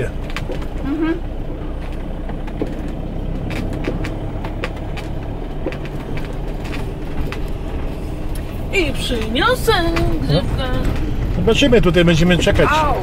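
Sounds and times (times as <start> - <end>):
van engine running: 0.0 - 13.0
light clicks and rattles: 1.7 - 12.6.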